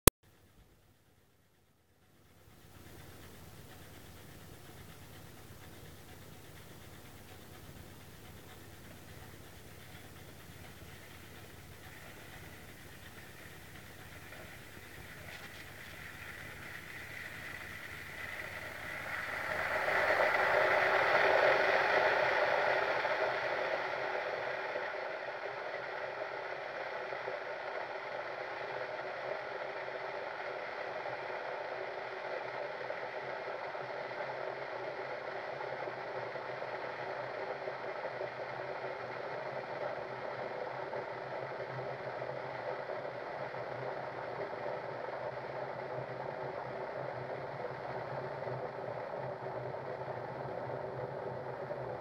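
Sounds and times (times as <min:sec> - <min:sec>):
electric kettle heating water: 0:02.2 - 0:52.0.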